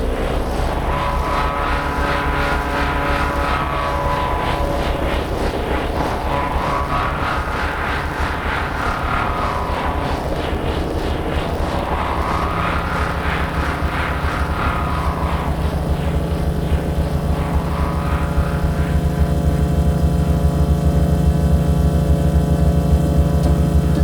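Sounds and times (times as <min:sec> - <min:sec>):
pulsing upper layer: 0:00.0 - 0:19.8
steady hum-like tones: 0:00.0 - 0:21.2
distorted noise drone: 0:00.0 - 0:23.2.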